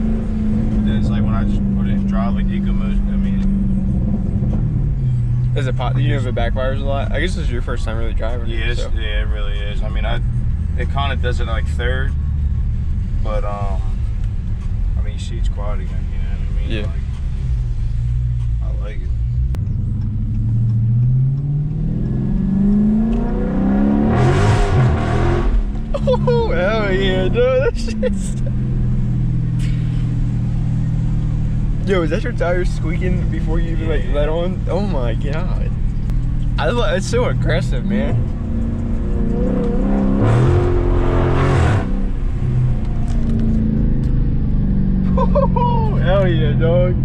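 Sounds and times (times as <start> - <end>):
car engine accelerating hard: 0.0 - 47.0.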